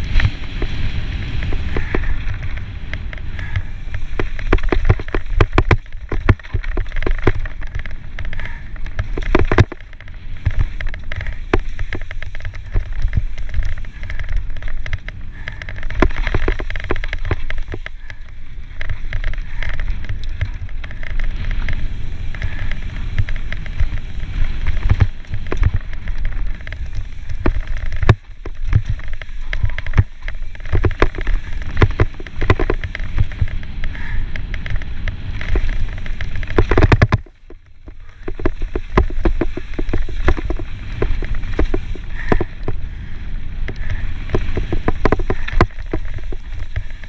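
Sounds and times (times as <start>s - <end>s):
bike clacking and rattling: 0.0s - 47.0s
tyres rolling over dirt and rock: 0.0s - 47.0s
wind buffeting microphone: 0.0s - 47.0s.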